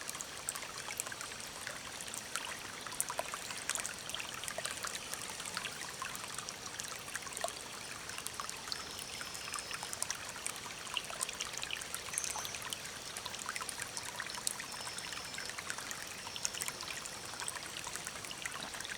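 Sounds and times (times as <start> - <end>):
stream trickling and splashing: 0.0 - 18.9.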